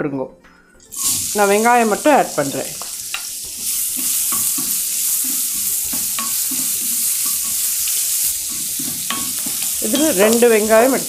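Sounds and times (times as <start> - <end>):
onions sizzling in hot oil: 0.9 - 11.0
wooden spoon scraping a pan: 0.9 - 11.0.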